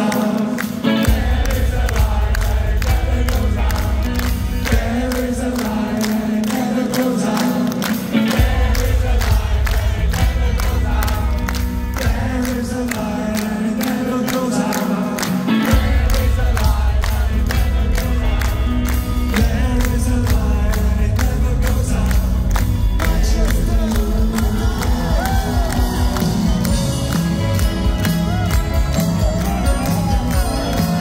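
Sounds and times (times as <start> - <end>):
bass: 0.0 - 31.0
crowd singing along: 0.0 - 31.0
rock band and orchestra playing: 0.0 - 31.0.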